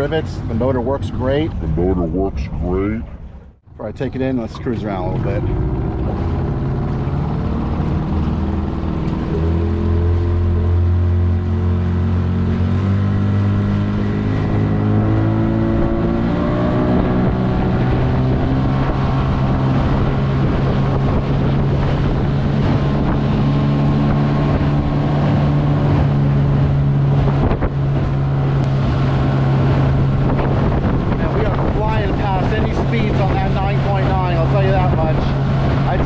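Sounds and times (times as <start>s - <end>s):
outboard motor running: 0.0s - 36.0s
wind on microphone: 4.4s - 36.0s.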